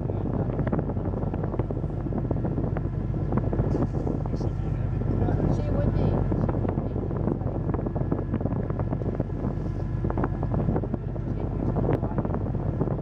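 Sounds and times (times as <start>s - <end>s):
ferry engine droning: 0.0s - 13.0s
wind buffeting microphone: 0.0s - 13.0s.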